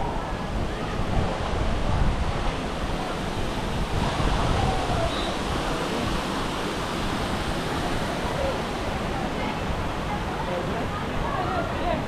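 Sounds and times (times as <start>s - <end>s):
splashing water rushing: 0.0s - 12.0s.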